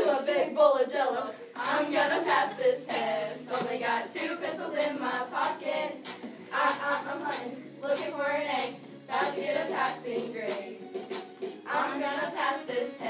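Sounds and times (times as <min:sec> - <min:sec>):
girls rapping and singing in unison: 0:00.0 - 0:13.0.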